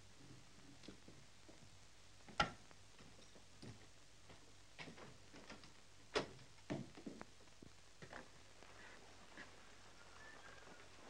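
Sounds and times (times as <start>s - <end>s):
faint film soundtrack hum: 0.0s - 11.0s.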